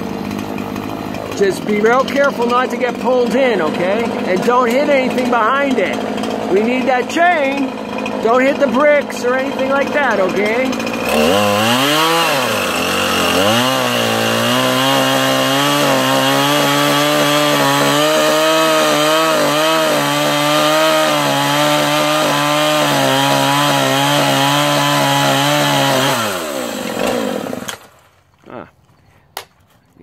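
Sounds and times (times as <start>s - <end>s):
chainsaw cutting wood: 0.0s - 28.2s.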